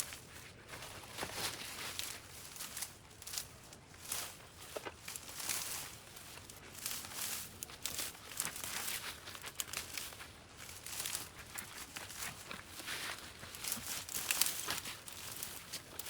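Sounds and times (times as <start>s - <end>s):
vines and brush rustling and tearing: 0.0s - 16.0s.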